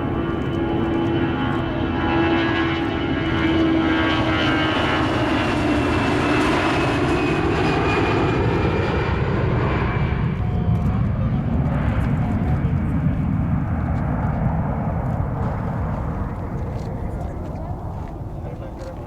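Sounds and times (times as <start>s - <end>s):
jet engine roar passing: 0.0s - 19.0s.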